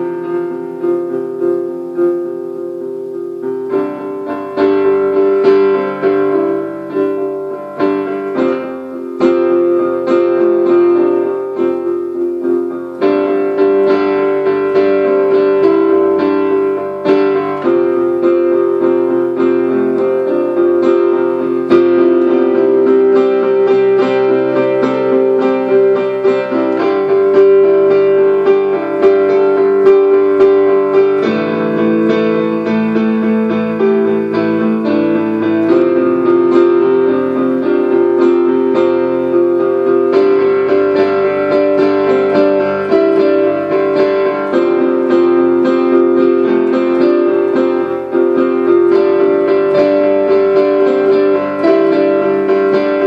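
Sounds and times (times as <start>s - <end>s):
piano improvisation: 0.0s - 53.0s.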